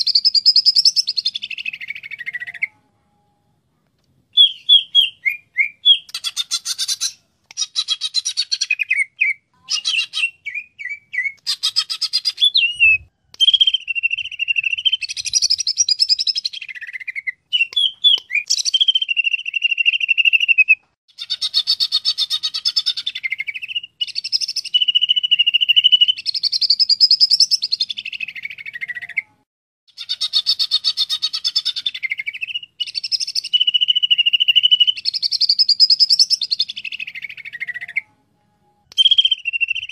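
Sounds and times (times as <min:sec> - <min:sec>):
bird singing trills and whistles: 0:00.0 - 0:02.8, 0:04.3 - 0:38.2, 0:38.8 - 0:39.9.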